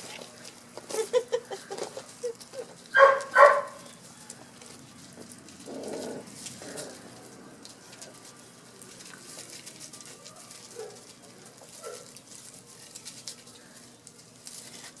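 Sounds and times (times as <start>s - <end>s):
paws scrabbling on gravel and leaves: 0.0s - 15.0s.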